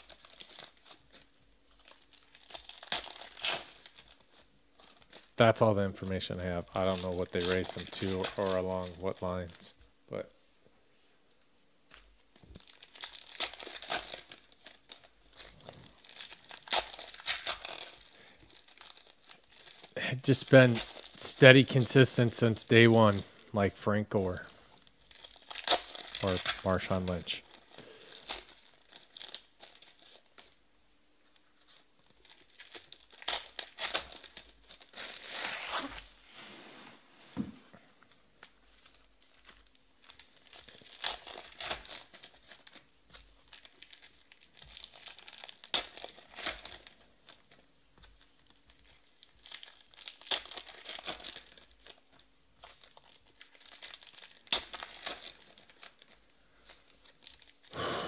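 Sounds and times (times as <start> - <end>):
plastic wrappers crinkling and tearing: 0.0 - 9.8, 11.9 - 30.6, 31.2 - 36.2, 38.0 - 57.9.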